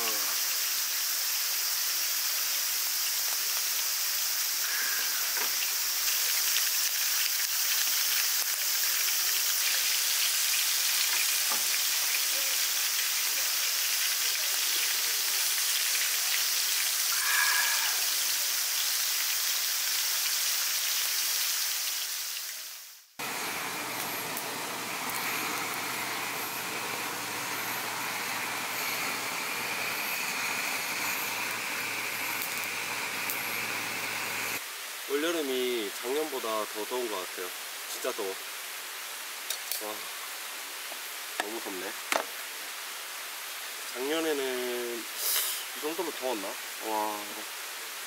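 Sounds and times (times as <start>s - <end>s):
steady hiss: 0.0s - 48.0s.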